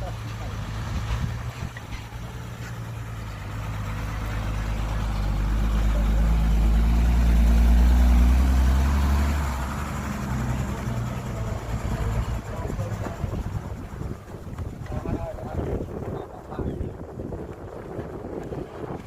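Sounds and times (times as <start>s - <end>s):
heavy diesel engine running: 0.0s - 15.7s.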